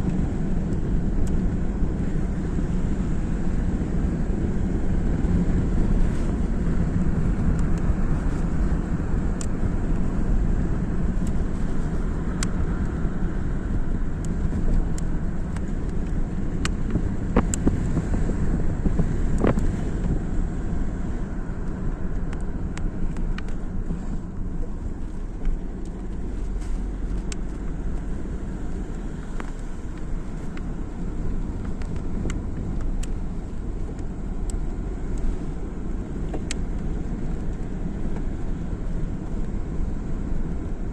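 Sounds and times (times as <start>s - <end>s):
vehicle engine and tyres rumbling: 0.0s - 40.9s.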